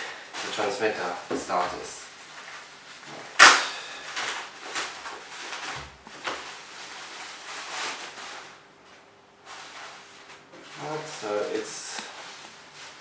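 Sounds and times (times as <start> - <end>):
plastic wrapping crinkling: 0.3 - 13.0.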